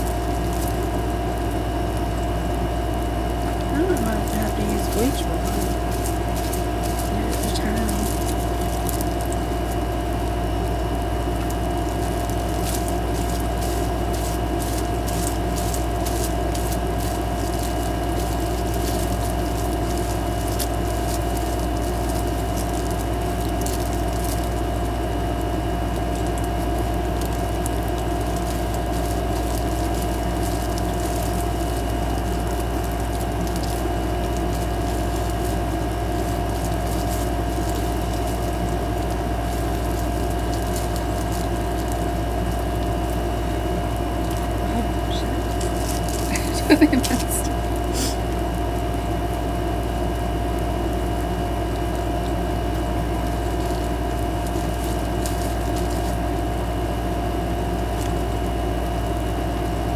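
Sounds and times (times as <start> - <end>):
machine hum with whining tones: 0.0 - 59.9
gloved hands rustling: 3.3 - 48.3, 53.2 - 56.6.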